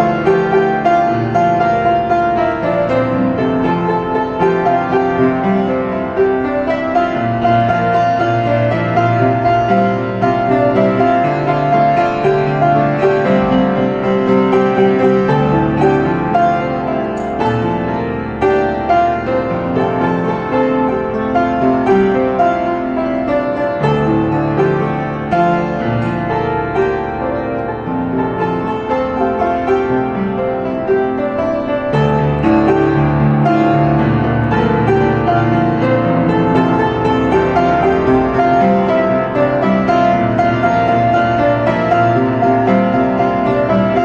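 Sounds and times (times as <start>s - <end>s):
slow piano music: 0.0s - 44.0s.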